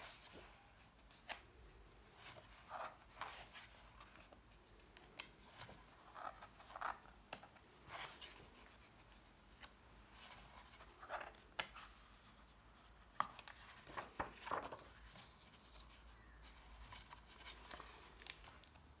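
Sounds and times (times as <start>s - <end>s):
book pages turning: 0.0s - 19.0s.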